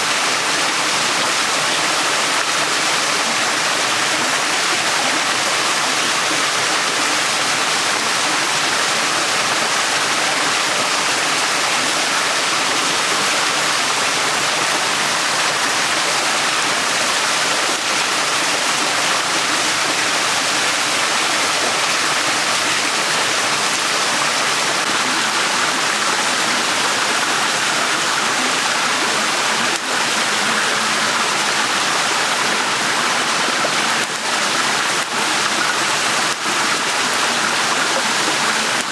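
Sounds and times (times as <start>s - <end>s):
stream water babbling over stones: 0.0s - 38.9s.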